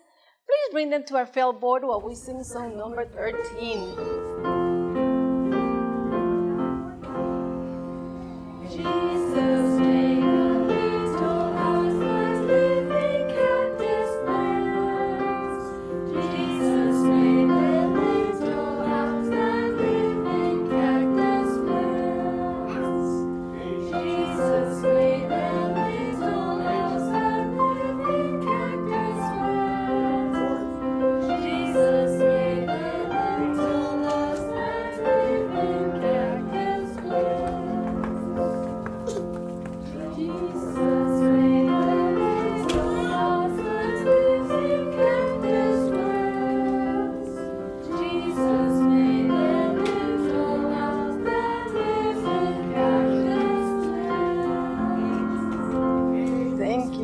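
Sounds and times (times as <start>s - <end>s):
piano playing children's song: 3.3s - 57.0s
people singing along: 8.4s - 38.7s, 39.8s - 56.6s.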